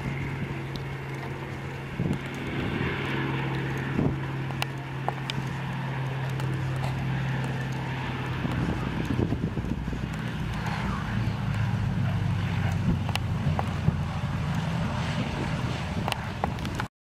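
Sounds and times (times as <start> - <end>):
propeller plane engines droning: 0.0 - 16.9.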